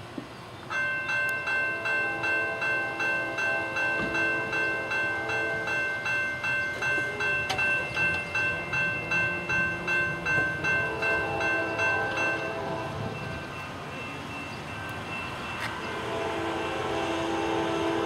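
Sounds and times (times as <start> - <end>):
crossing warning bell ringing: 0.7 - 18.0.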